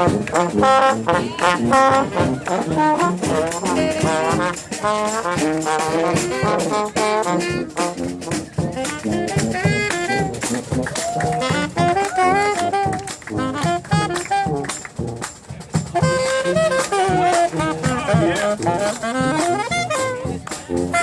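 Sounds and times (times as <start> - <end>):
brass horns playing tune: 0.0 - 21.0.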